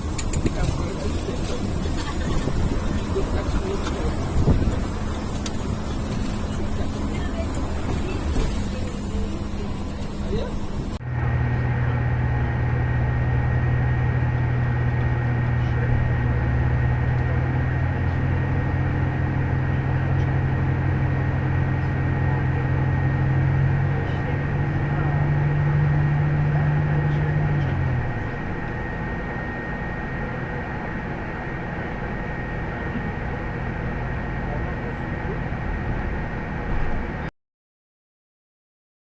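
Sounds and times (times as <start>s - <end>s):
vehicle drone: 0.0s - 37.3s.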